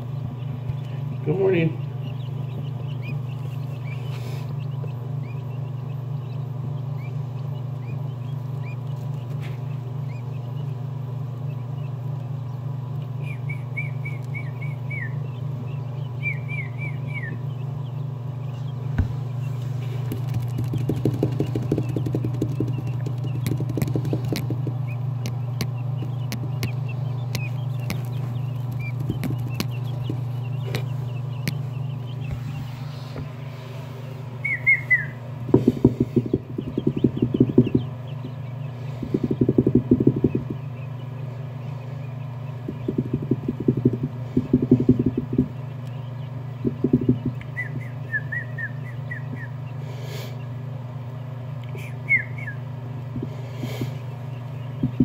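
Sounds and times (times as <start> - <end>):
chicks rustling and tapping: 0.0 - 49.8, 50.4 - 55.0
chicks peeping: 0.0 - 55.0
steady low hum: 0.0 - 55.0.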